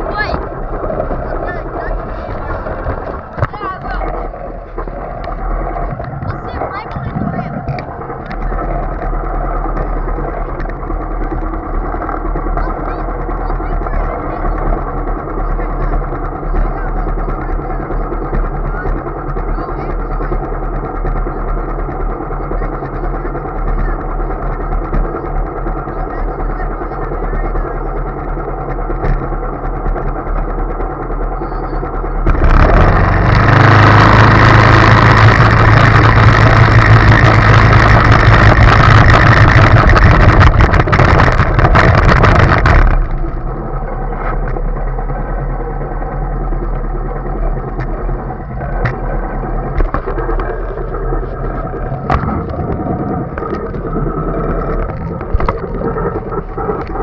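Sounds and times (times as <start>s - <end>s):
go-kart engine: 0.0s - 57.0s.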